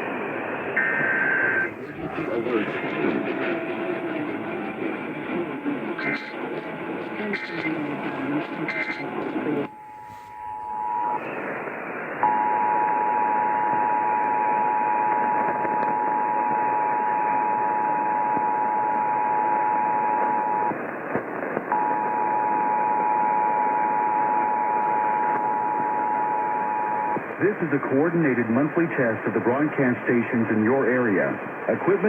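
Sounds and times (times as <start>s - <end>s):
broadcast static hiss: 0.0s - 32.0s.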